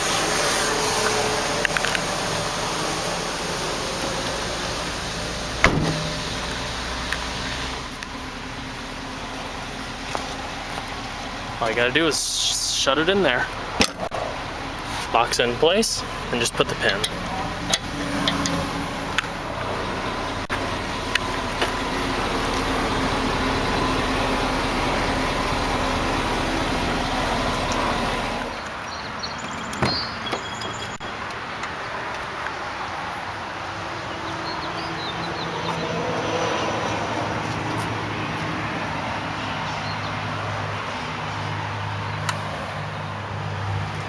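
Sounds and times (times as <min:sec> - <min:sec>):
vehicle engine idling: 0:00.0 - 0:36.2
outdoor noise: 0:00.0 - 0:44.0.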